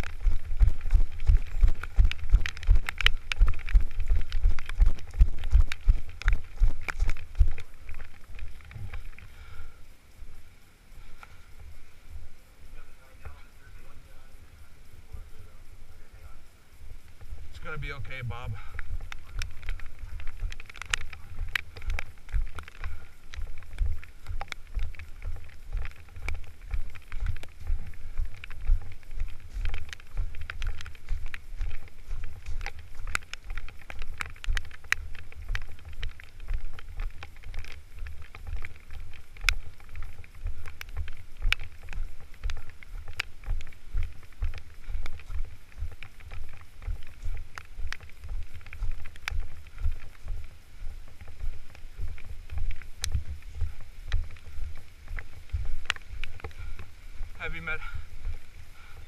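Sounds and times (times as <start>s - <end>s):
small clicks and rustles: 0.0s - 59.0s
wind rumbling: 0.0s - 59.0s.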